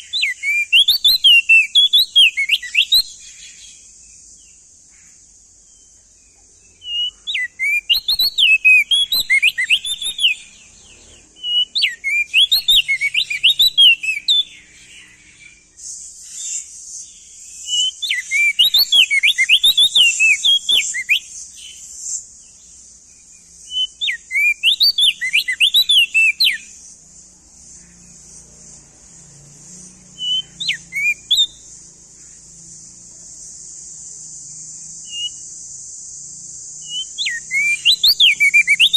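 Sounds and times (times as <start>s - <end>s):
bird singing whistled notes: 0.0s - 38.9s
steady high hiss: 0.0s - 38.9s.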